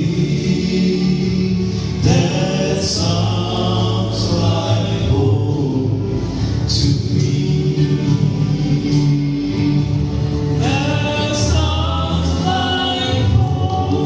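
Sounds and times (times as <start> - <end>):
vocal quartet singing in harmony: 0.0 - 14.0.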